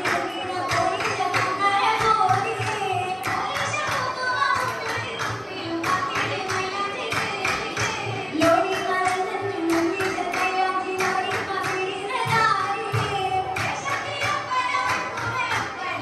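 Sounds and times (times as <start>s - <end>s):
girls singing into microphone: 0.0s - 16.0s
rhythmic hand claps: 0.0s - 16.0s.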